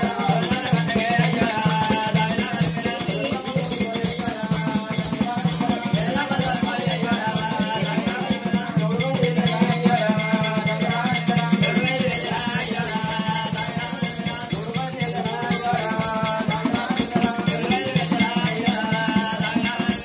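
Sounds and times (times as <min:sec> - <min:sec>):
bells jingling: 0:00.0 - 0:20.0.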